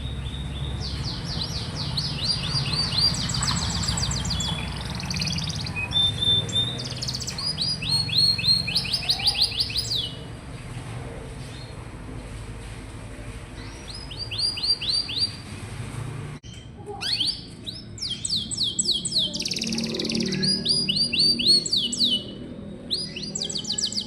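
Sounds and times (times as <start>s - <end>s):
canary singing trills: 0.0s - 10.4s, 13.5s - 15.5s, 16.4s - 24.0s.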